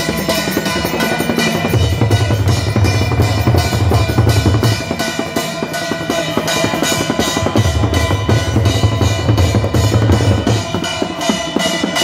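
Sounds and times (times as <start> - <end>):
drums beaten with sticks: 0.0 - 12.0.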